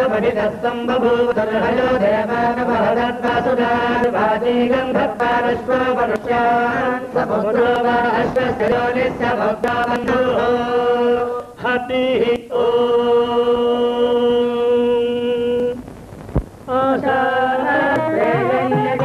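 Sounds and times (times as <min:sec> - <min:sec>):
person chanting: 0:00.0 - 0:15.8, 0:16.7 - 0:19.0.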